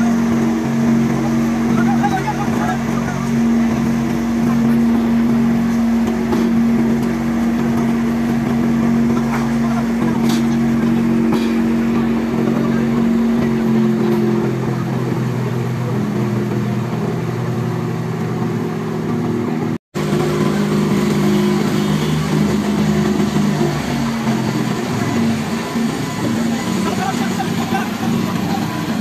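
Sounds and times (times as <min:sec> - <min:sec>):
fire truck engine droning: 0:00.0 - 0:29.0.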